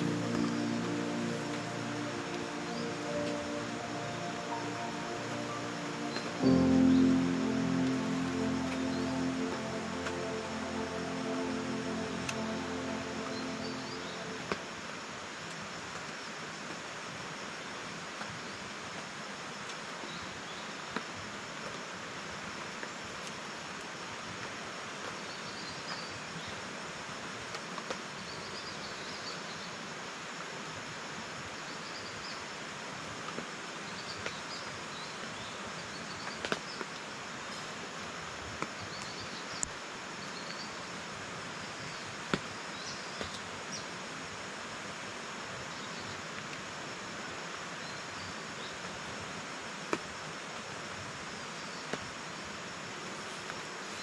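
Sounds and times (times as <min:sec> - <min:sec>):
even forest hiss: 0:00.0 - 0:54.0.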